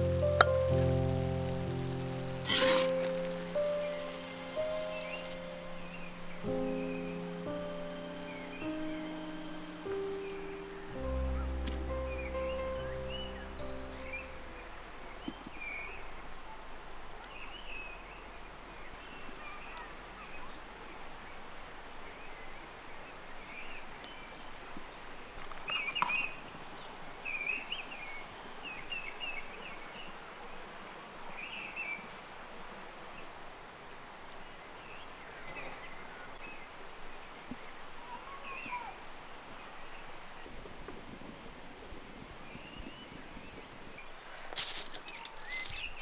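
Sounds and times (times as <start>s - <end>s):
small birds chirping: 0.0s - 41.2s, 41.9s - 46.0s
steady background hiss: 0.0s - 46.0s.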